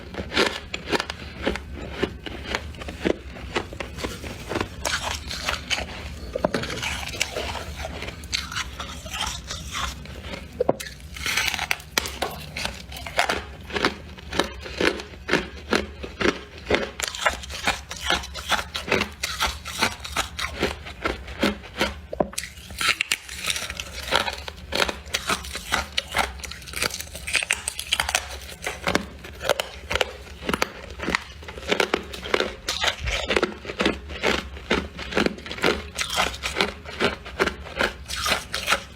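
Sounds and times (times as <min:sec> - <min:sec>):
chewing crisp frost crunches: 0:00.0 - 0:38.9.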